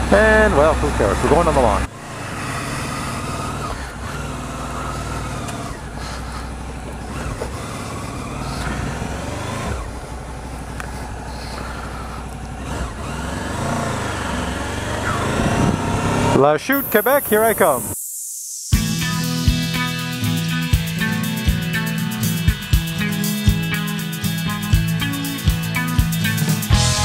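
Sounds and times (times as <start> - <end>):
motorcycle engine revving: 0.0 - 17.9, 18.8 - 27.0.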